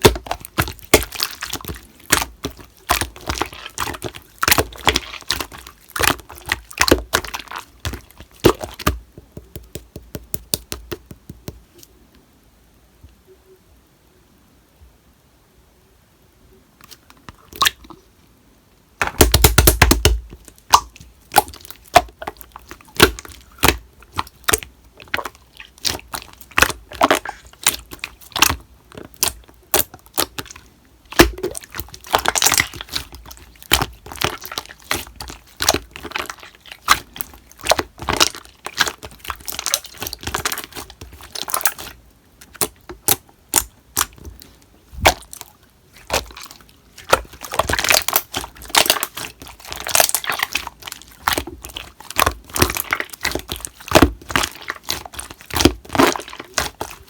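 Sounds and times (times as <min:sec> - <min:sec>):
slime squished by hand crackling: 0:00.0 - 0:11.9, 0:19.1 - 0:57.0.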